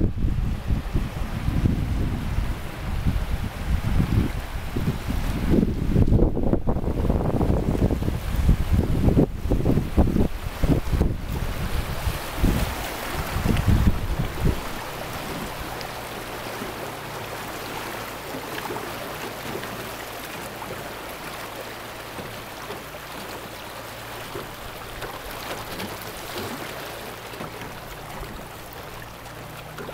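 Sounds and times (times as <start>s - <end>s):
outboard motor running: 0.0s - 29.9s
river water rushing past hull: 0.0s - 29.9s.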